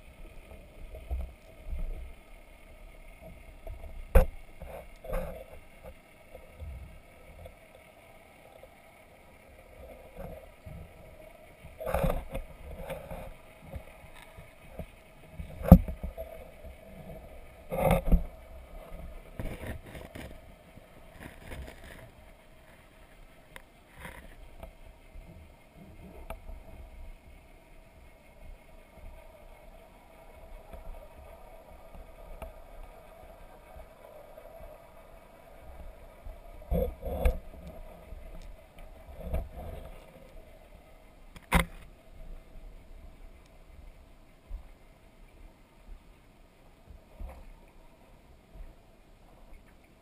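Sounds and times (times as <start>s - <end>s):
faint muffled hum: 0.0s - 50.0s.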